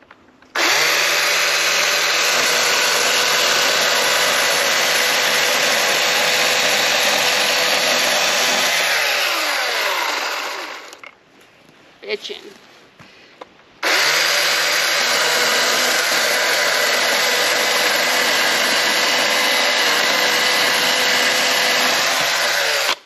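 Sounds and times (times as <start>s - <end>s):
chainsaw cutting a log: 0.5s - 11.0s, 13.8s - 23.0s.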